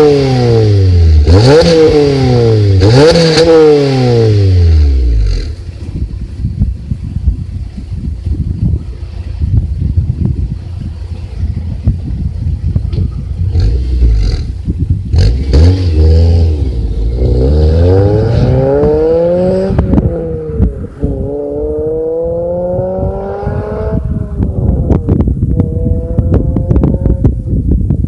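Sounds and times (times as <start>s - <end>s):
car exhaust under hard acceleration: 0.0s - 28.0s.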